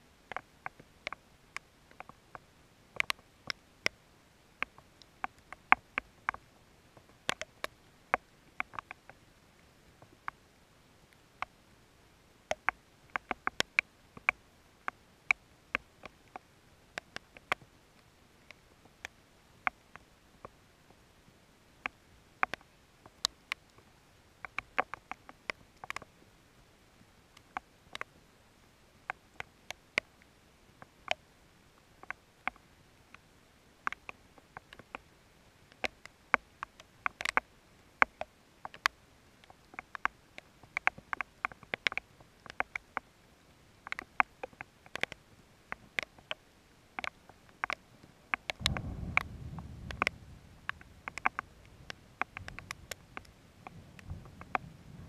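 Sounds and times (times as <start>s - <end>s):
raindrops hitting close: 0.0s - 55.0s.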